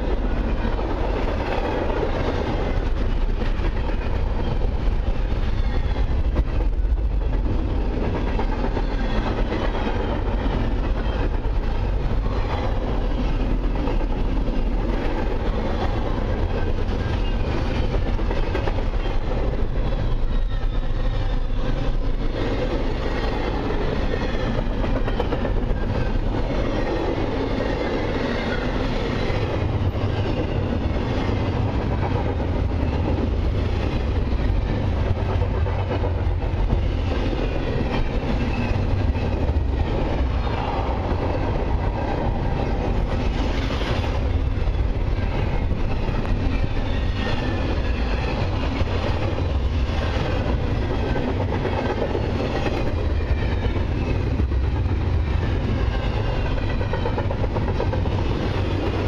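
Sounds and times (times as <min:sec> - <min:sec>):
steel wheels rumbling on rail: 0:00.0 - 0:59.0
wheels clickety-clack over rail joints: 0:00.0 - 0:59.0.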